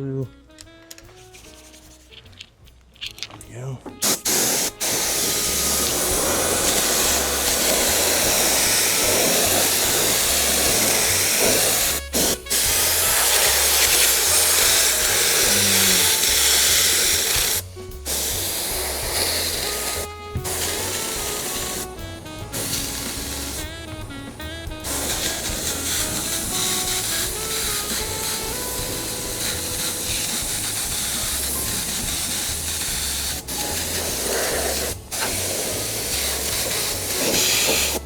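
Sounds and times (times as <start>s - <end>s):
spray glue gun hissing: 4.0s - 38.0s.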